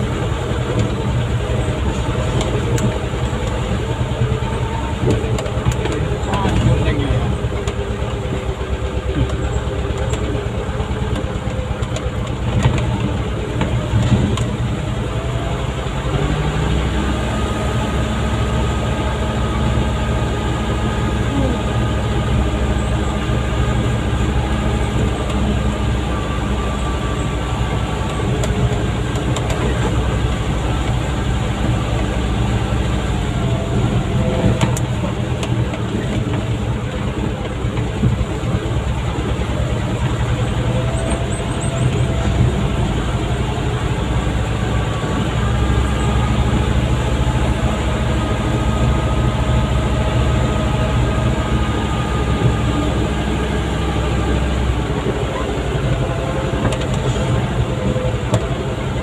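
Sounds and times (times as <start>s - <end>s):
truck diesel engine under load: 0.0s - 59.0s.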